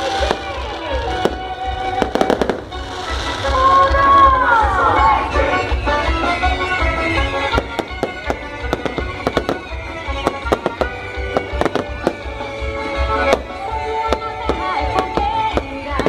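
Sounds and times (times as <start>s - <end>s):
firecrackers popping: 0.0s - 4.2s, 5.6s - 16.0s
music with pulsing bass beat: 0.1s - 16.0s.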